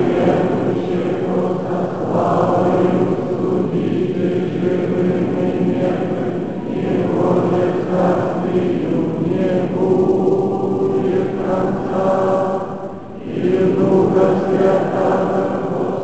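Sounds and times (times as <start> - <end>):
choir singing a chant: 0.0 - 16.0.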